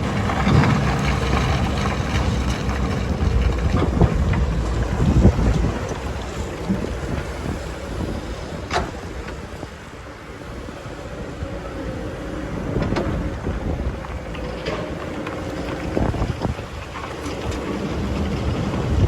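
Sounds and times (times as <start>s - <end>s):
excavator engine running: 0.0s - 19.0s
wind buffeting microphone: 0.0s - 19.0s.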